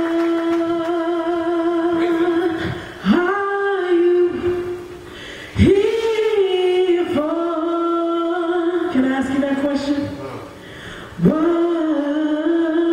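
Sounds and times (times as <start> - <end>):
woman singing unaccompanied: 0.0 - 5.0, 5.6 - 10.2, 11.2 - 12.9.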